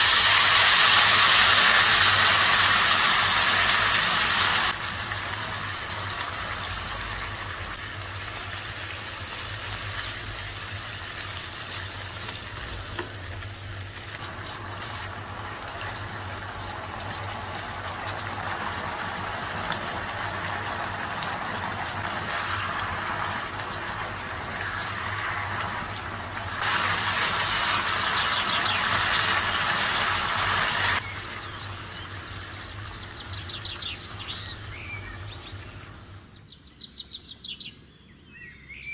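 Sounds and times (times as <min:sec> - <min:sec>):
food sizzling in a pan: 0:00.0 - 0:36.2.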